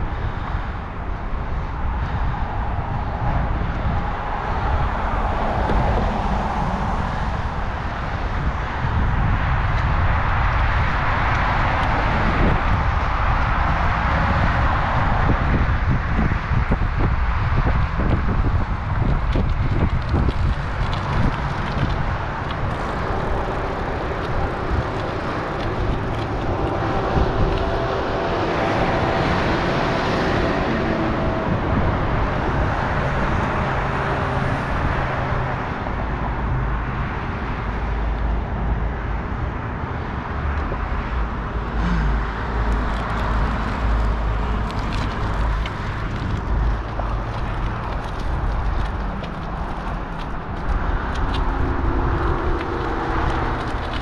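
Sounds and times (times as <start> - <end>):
low rumble: 0.0 - 39.2, 40.4 - 54.0
road traffic noise: 0.0 - 54.0.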